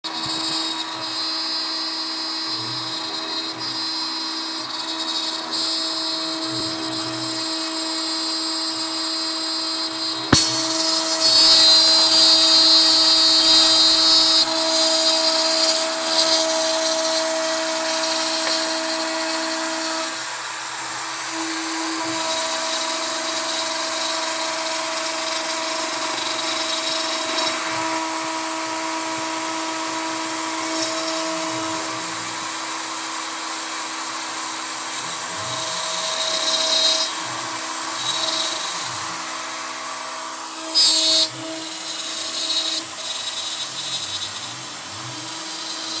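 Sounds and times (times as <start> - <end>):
router cutting wood: 0.0 - 46.0
router spindle whining: 0.1 - 46.0.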